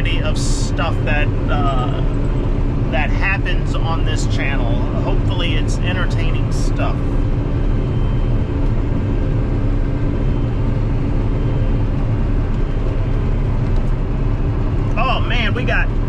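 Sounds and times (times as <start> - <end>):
combine harvester engine drone: 0.0 - 16.0.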